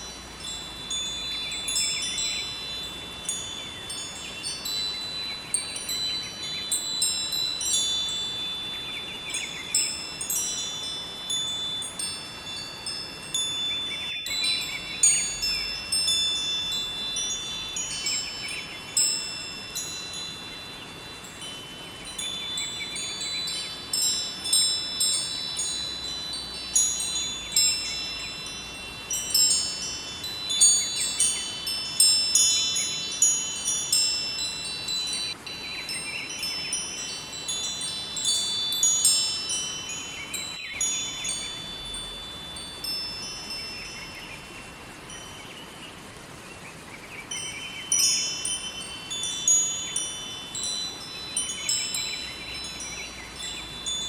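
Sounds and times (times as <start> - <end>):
river water rushing: 0.0 - 54.0
wind chimes tinkling: 0.0 - 54.0.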